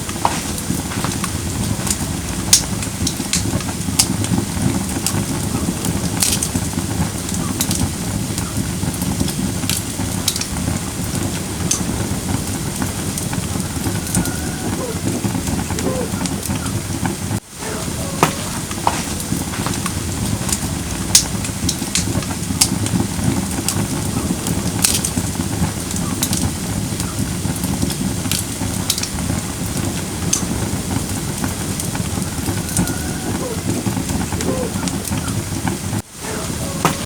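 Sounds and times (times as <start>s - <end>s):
burning logs crackling: 0.0s - 37.0s
low rumble of flames: 0.0s - 37.0s.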